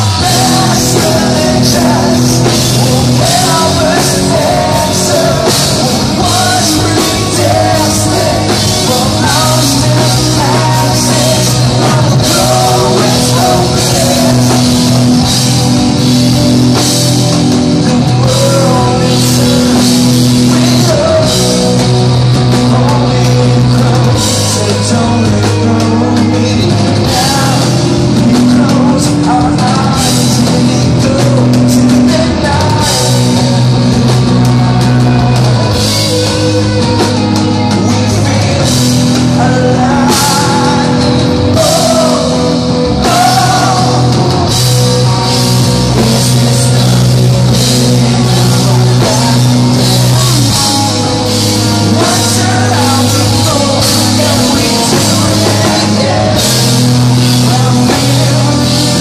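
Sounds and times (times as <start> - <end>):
live rock band playing: 0.0 - 59.0
man singing: 0.0 - 59.0.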